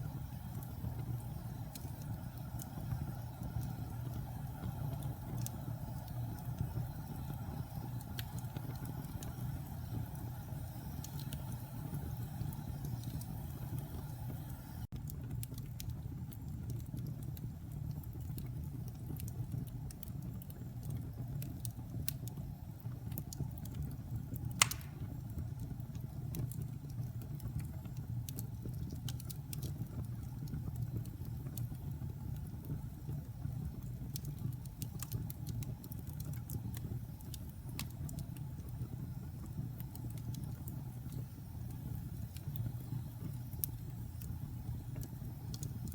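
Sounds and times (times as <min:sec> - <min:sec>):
fire pops: 0:00.0 - 0:45.9
low rumble of flames: 0:00.0 - 0:45.9
wood fire crackling: 0:00.0 - 0:45.9.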